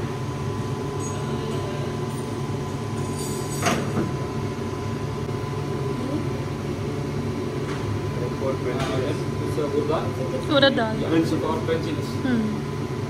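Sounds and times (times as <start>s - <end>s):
kitchen ventilation drone: 0.0s - 13.0s.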